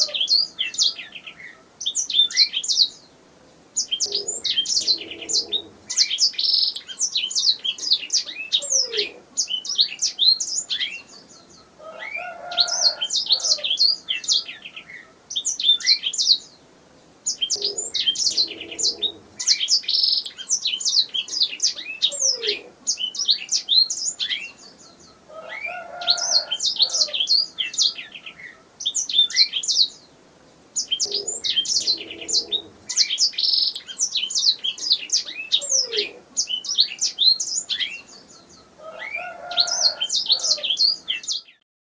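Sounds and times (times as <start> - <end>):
canary singing high trills: 3.8 - 16.5, 17.3 - 30.0, 30.8 - 41.6.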